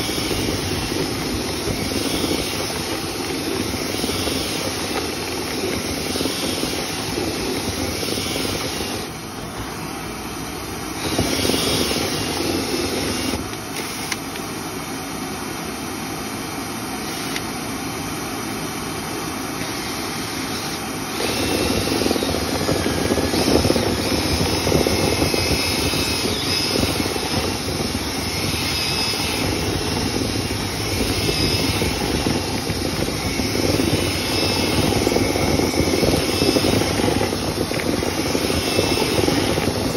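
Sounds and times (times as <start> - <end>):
vent cleaning machine rushing: 0.0 - 39.9.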